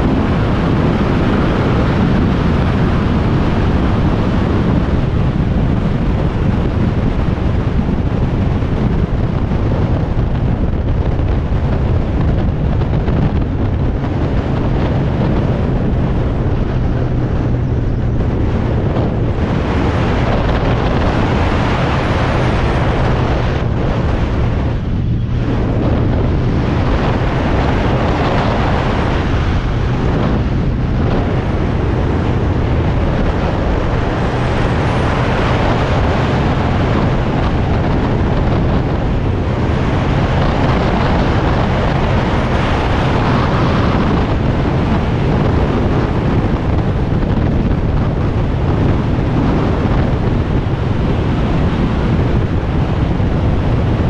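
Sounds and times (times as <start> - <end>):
motorcycle engine cruising: 0.0 - 54.0
wind buffeting microphone: 0.0 - 54.0.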